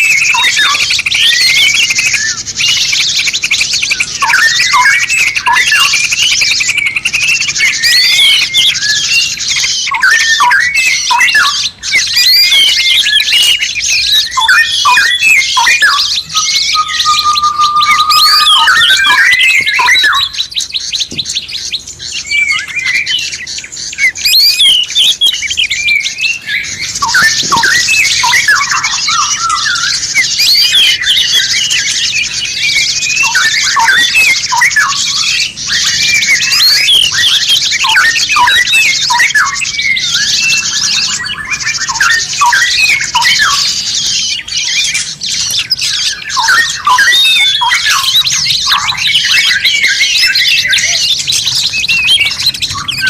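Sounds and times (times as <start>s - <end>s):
songbirds chirping and whistling: 0.0s - 53.0s.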